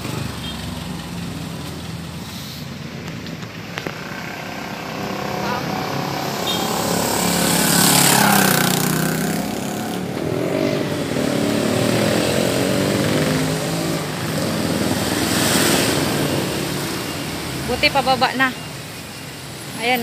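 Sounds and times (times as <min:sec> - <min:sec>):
small petrol engine whining: 0:03.6 - 0:20.0.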